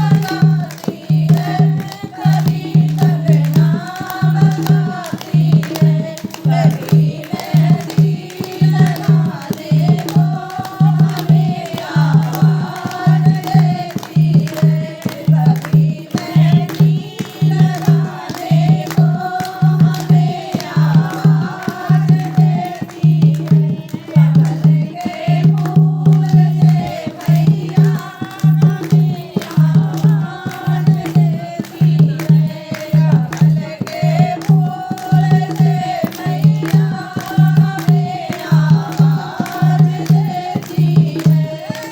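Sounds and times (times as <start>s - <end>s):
person singing devotional song: 0.0s - 41.9s
steady drum beat: 0.0s - 41.9s.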